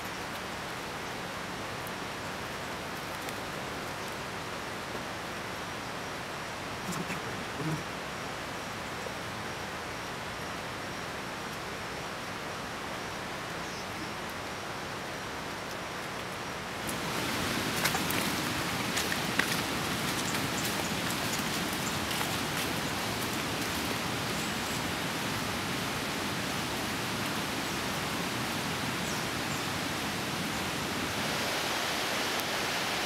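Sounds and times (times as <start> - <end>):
rain on foliage: 0.0 - 33.0.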